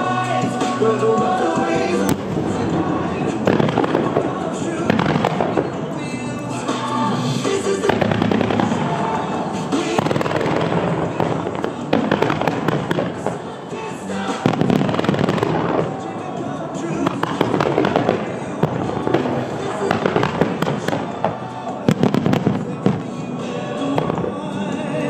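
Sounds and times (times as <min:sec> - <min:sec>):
fireworks bursting and crackling: 0:00.0 - 0:25.0
music: 0:00.0 - 0:25.0.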